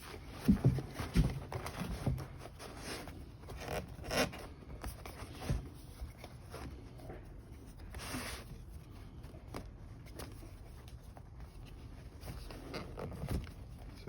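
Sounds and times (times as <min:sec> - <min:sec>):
cover rustling and scraping: 0:00.0 - 0:14.0.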